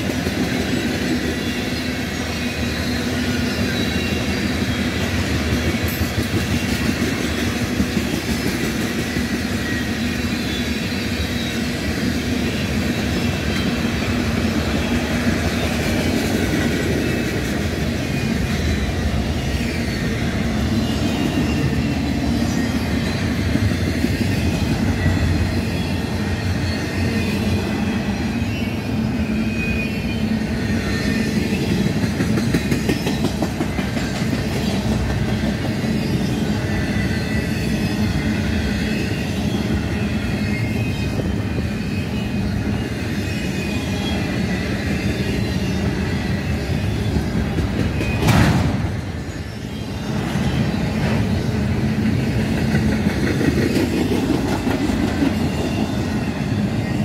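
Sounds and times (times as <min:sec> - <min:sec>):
freight train wheels clattering: 0:00.0 - 0:29.0, 0:29.6 - 0:57.0.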